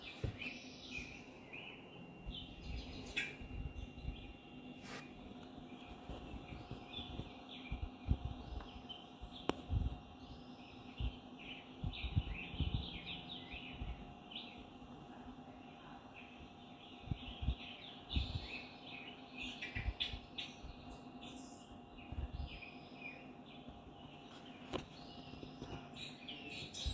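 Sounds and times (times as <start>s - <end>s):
faint steady hum: 0.0s - 26.9s
small birds chirping: 0.0s - 26.9s.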